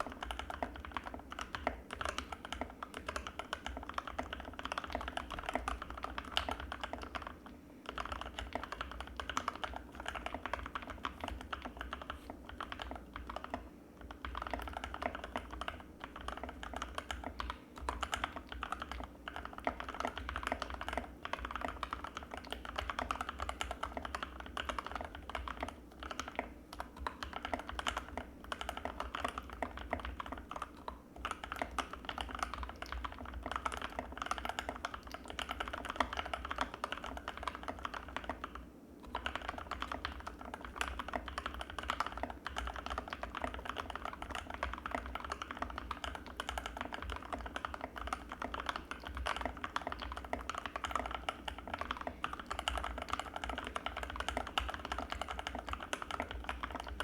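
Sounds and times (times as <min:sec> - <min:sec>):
fast typing on mechanical keyboard: 0:00.0 - 0:57.0.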